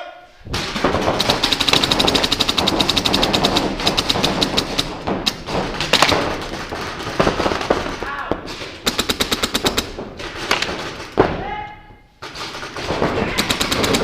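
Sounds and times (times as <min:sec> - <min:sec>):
paintball markers firing: 0:00.6 - 0:11.2, 0:12.2 - 0:14.0.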